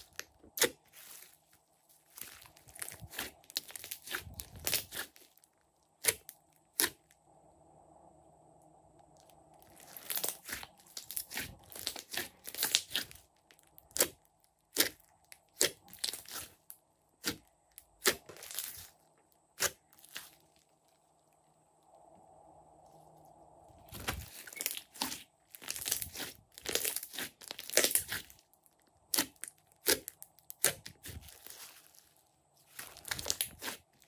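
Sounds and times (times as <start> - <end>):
slime crackling: 0.0 - 7.2, 9.0 - 21.4, 23.8 - 34.0.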